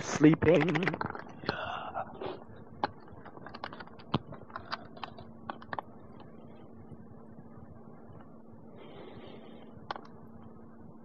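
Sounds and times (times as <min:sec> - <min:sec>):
faint hum: 0:00.0 - 0:11.0
tape hiss: 0:00.0 - 0:11.0.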